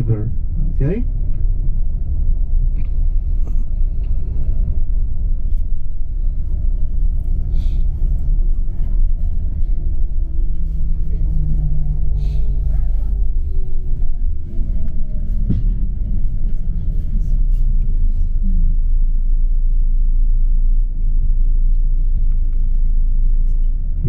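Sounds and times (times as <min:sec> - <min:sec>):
bus engine and tyres rumbling: 0:00.0 - 0:24.0.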